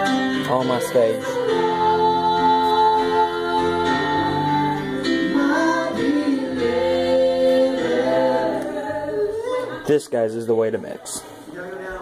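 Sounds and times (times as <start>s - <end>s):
choir singing held notes: 0.0s - 9.9s.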